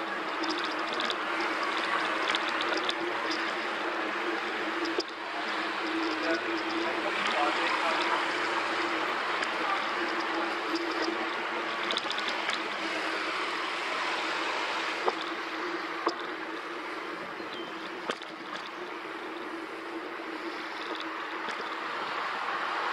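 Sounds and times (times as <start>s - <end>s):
tyres rolling on paving: 0.0s - 22.9s.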